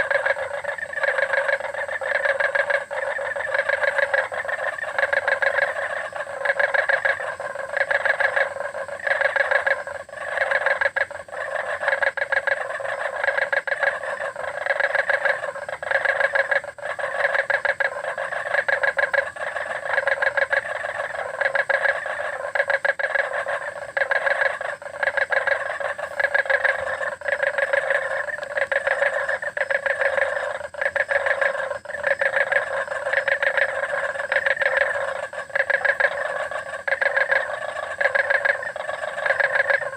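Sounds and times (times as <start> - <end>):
frogs croaking in chorus: 0.0 - 39.9.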